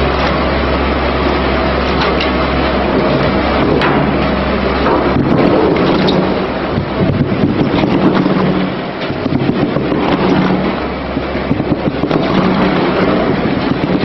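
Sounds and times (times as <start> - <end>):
industrial grinder grinding carcass: 0.0 - 14.0
low pulsing hum: 0.0 - 14.0.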